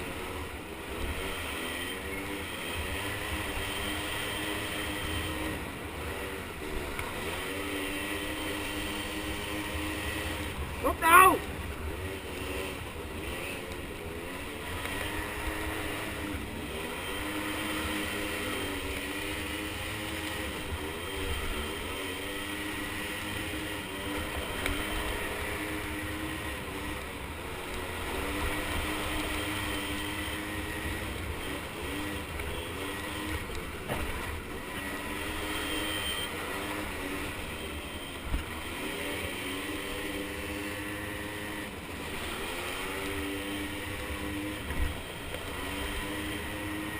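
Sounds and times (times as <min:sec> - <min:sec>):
small engines revving: 0:00.0 - 0:46.9.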